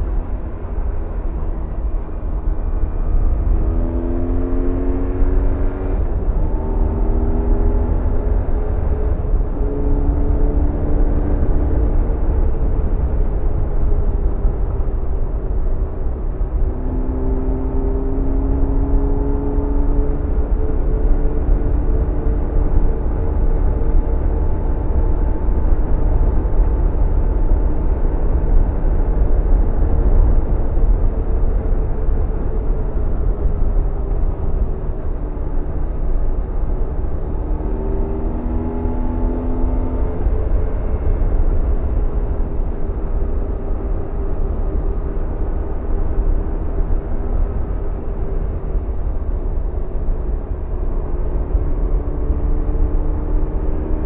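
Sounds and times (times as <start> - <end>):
motorcycle engine cruising: 0.0 - 54.0
rushing wind: 0.0 - 54.0.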